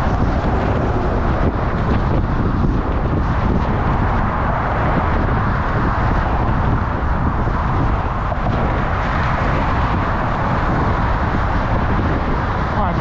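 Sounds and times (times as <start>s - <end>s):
motor traffic: 0.0s - 13.0s
wind on microphone: 0.0s - 13.0s.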